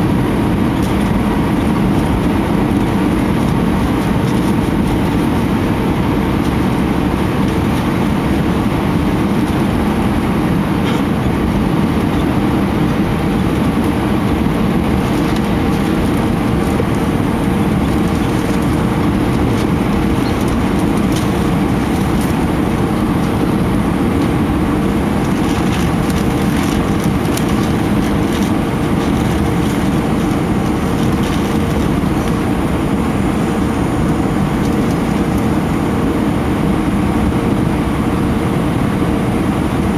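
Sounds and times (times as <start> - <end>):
rushing air: 0.0 - 38.1
aircraft engines rumbling: 0.0 - 39.9
constant cabin hum: 0.0 - 39.9.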